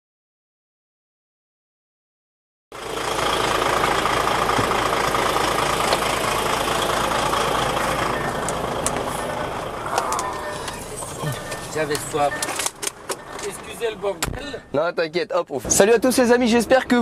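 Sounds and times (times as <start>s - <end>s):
diesel engine idling: 2.7s - 17.0s.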